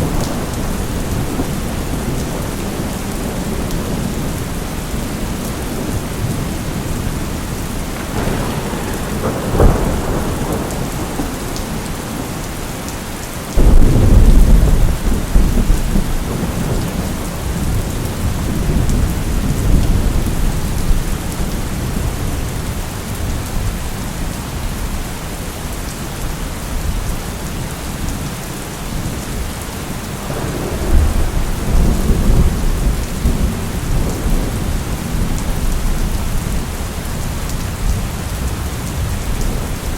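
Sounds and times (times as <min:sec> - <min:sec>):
rolling thunder: 0:00.0 - 0:23.8, 0:30.0 - 0:39.9
steady rain: 0:00.0 - 0:39.9.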